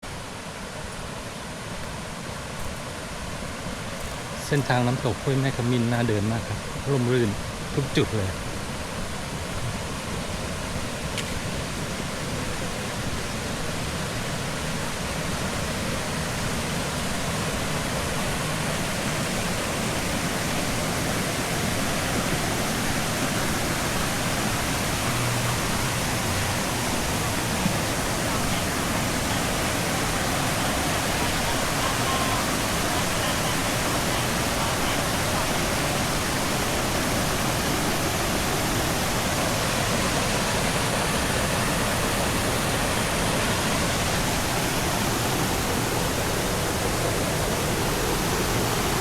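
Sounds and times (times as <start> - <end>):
water cascading over falls: 0.0 - 49.0.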